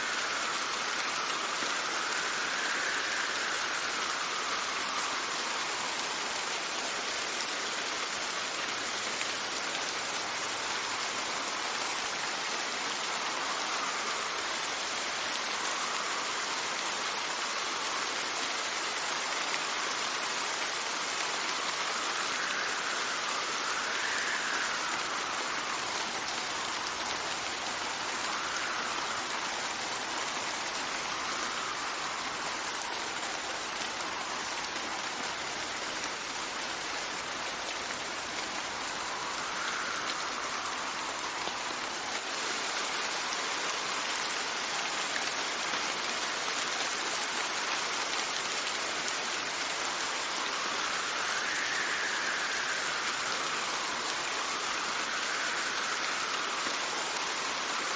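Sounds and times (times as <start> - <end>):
rain falling: 0.0 - 57.9
wind gusts: 0.0 - 57.9.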